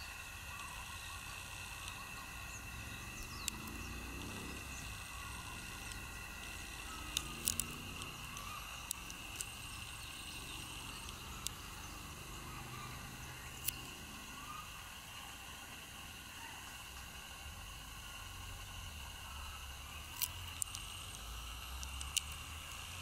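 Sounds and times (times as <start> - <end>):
steady high-pitched hum: 0.0 - 23.0.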